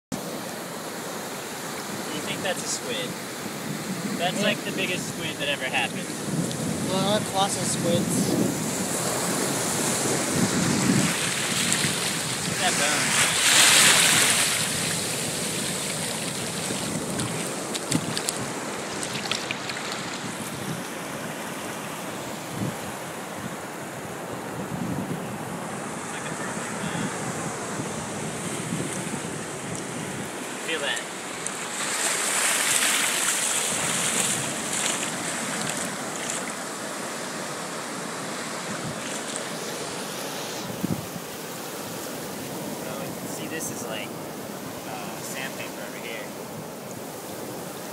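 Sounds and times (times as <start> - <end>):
surf washing on shore: 0.2 - 47.9
wind on microphone: 2.0 - 30.6, 31.8 - 36.6, 38.6 - 45.2.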